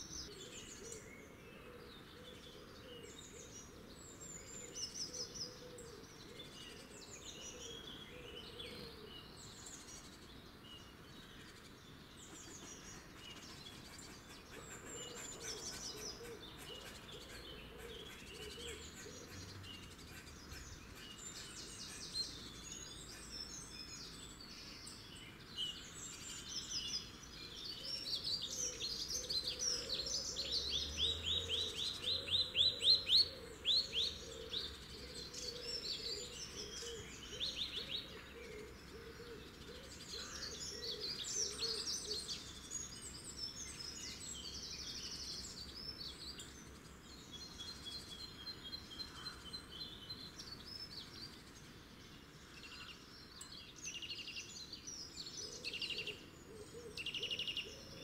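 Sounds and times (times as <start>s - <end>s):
small birds singing: 0.0s - 58.0s.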